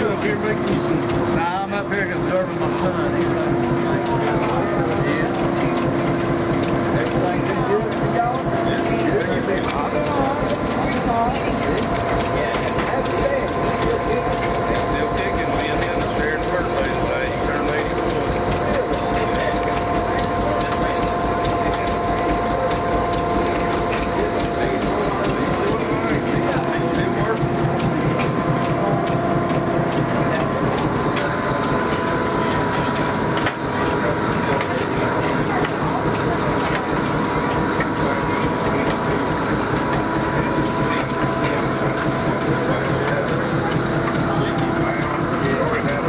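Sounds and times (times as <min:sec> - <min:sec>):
continuous whine: 0:00.0 - 0:46.0
cotton gin whirring: 0:00.0 - 0:46.0
rapid ticking: 0:00.2 - 0:46.0.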